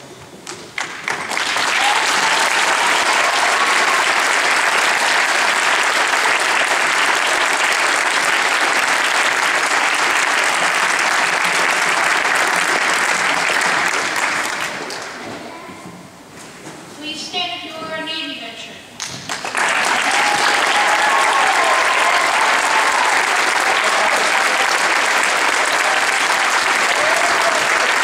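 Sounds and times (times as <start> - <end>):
audience applauding: 0.8 - 15.2, 19.0 - 28.0.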